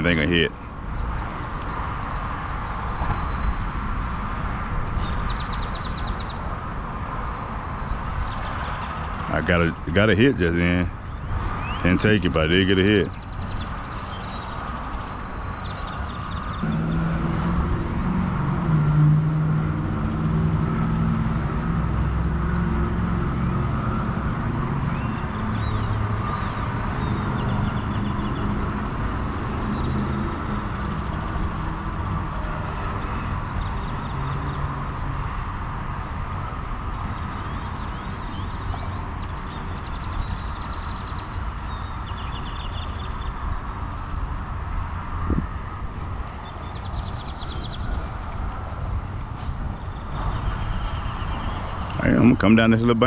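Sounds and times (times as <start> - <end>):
road traffic rumble: 0.0 - 53.0
vehicle engine hum: 0.0 - 53.0.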